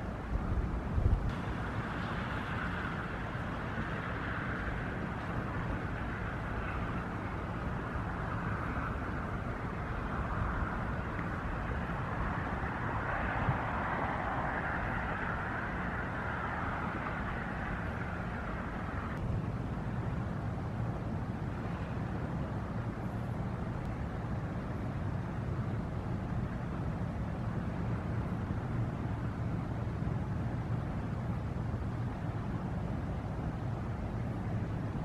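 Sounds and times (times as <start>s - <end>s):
constant hiss: 0.0s - 35.0s
barge engine drone: 1.3s - 35.0s.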